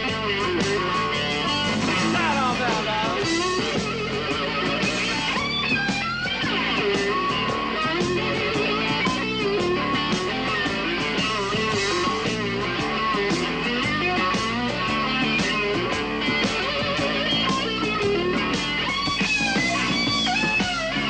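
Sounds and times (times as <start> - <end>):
guitar-led rock music: 0.0 - 21.0.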